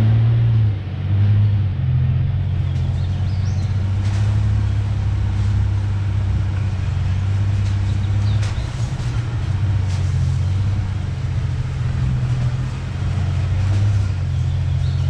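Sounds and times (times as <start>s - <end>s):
pickup truck engine droning: 0.0s - 15.0s.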